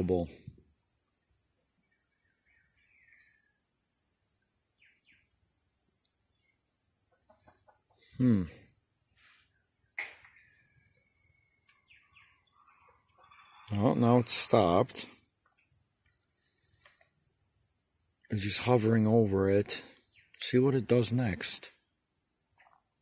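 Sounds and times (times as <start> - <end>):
bird chirps: 0.0 - 23.0
insects chorus: 0.0 - 23.0.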